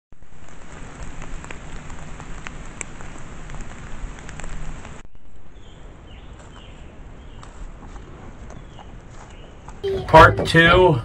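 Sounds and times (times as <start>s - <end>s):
rain on forest foliage: 0.1s - 9.8s.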